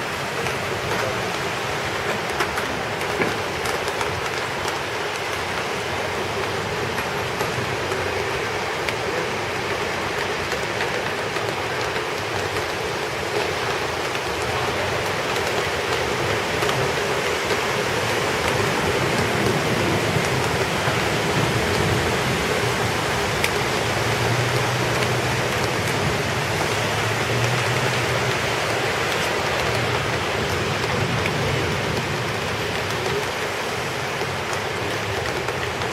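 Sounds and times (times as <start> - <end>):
heavy rain falling: 0.0 - 35.9
running water rushing: 0.0 - 35.9.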